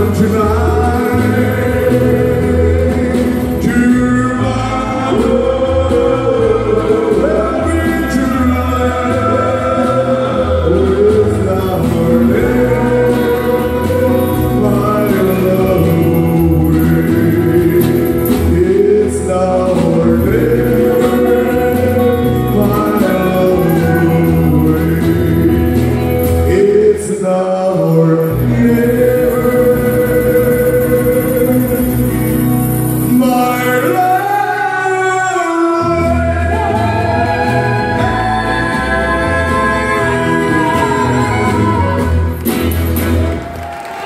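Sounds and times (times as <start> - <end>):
man singing: 0.0 - 42.7
strummed acoustic guitars: 0.0 - 43.6.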